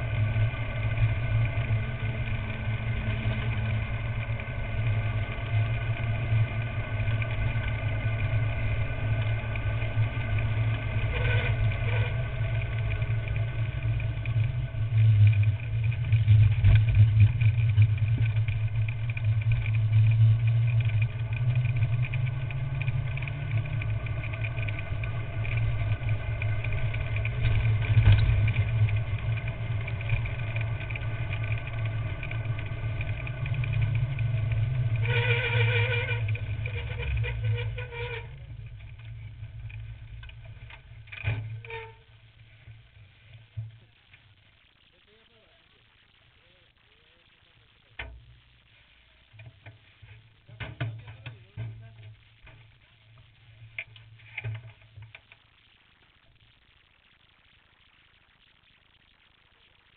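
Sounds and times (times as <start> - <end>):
wheels rolling on asphalt: 0.0 - 56.6.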